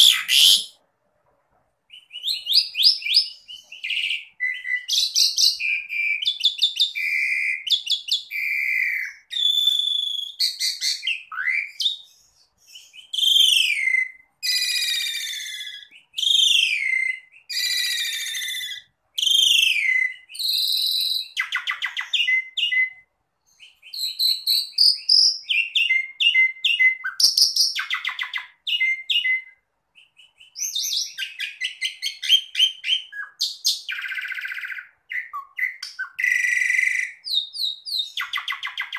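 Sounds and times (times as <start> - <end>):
starling singing: 0.0 - 0.8, 1.9 - 38.9.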